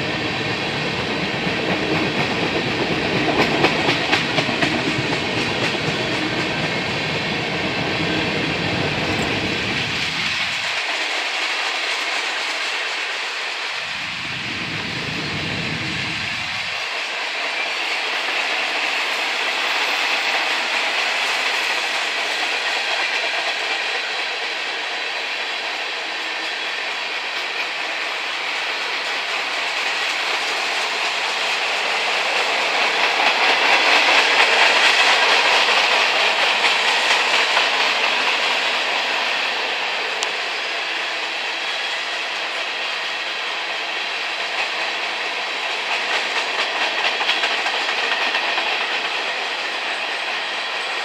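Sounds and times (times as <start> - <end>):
steel wheels running on rail: 0.0 - 51.0
train wheel clatter: 0.0 - 51.0.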